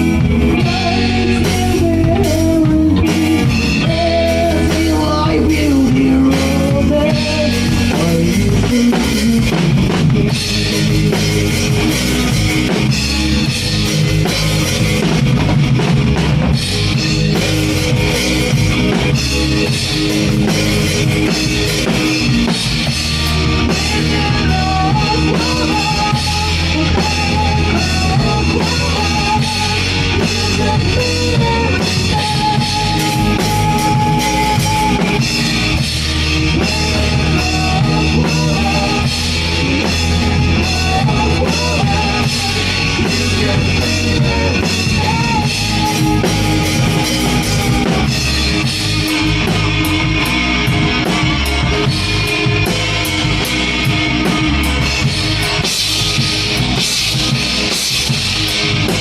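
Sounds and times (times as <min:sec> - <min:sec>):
drum kit beat with cymbals: 0:00.0 - 0:59.0
electric guitar lead line: 0:00.0 - 0:59.0
live rock band playing: 0:00.0 - 0:59.0.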